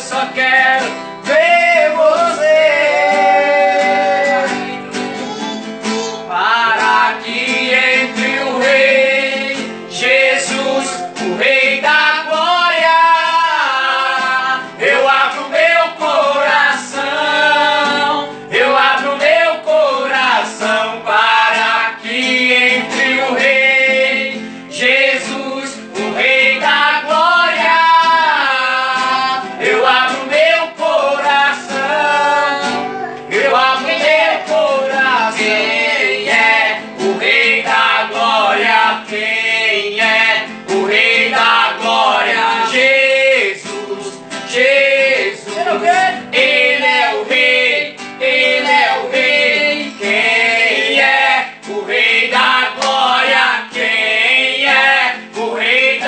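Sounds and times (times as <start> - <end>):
men singing a gospel song: 0.0 - 5.1, 6.2 - 56.0
acoustic guitar: 0.0 - 56.0.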